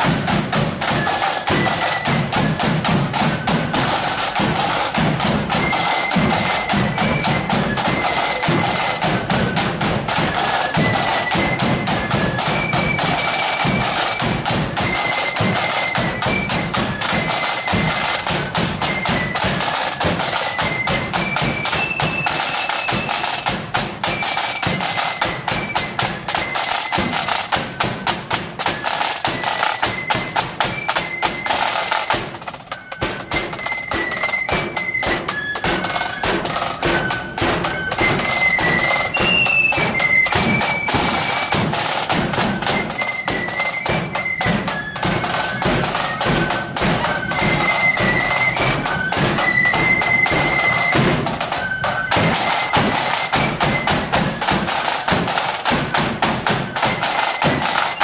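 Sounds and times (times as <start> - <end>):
flutes playing a melody: 0.0 - 58.0
rattling side drum: 0.0 - 58.0.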